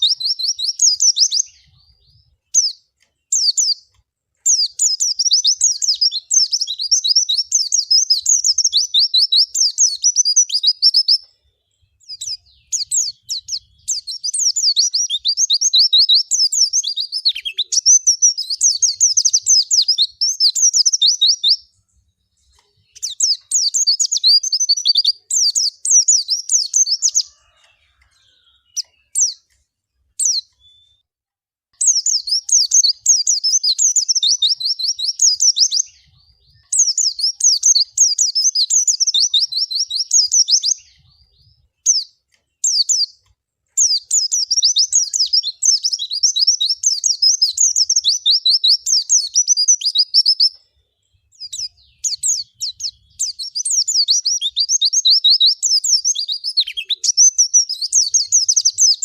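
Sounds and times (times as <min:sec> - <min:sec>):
bird high twittering song: 0:00.0 - 0:31.1, 0:31.8 - 0:59.0.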